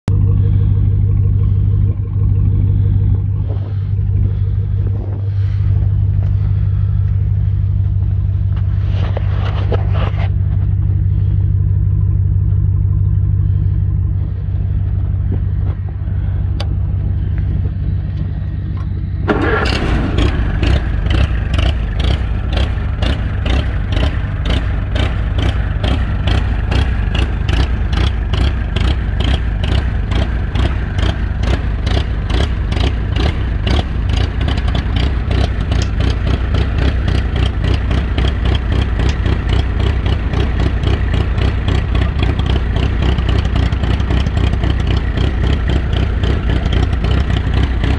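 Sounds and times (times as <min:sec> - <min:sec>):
tractor engine drone: 0:00.0 - 0:47.9
tractor engine idling: 0:00.0 - 0:47.9.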